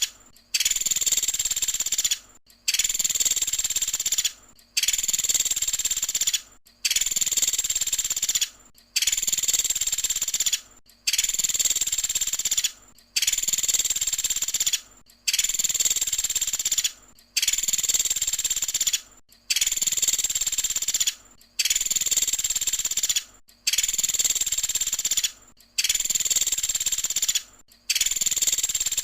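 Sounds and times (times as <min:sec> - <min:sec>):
woodpecker rattling call: 0:00.0 - 0:29.0.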